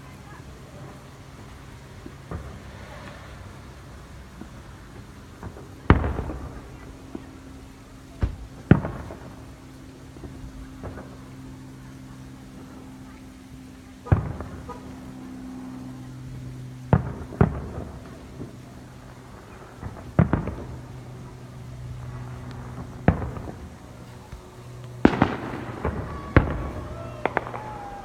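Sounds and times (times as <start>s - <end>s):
fireworks bangs: 0.2s - 11.2s, 14.0s - 28.0s.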